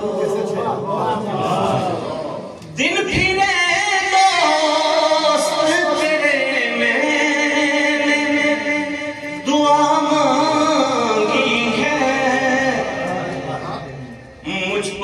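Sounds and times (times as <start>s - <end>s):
man singing melodic chant: 0.0s - 15.0s.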